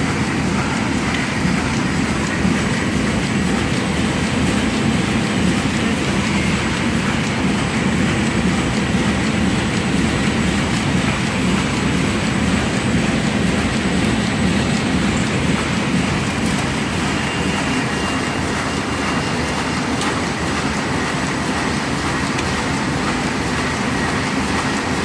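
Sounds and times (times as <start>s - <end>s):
machine mechanical clatter: 0.0s - 25.0s.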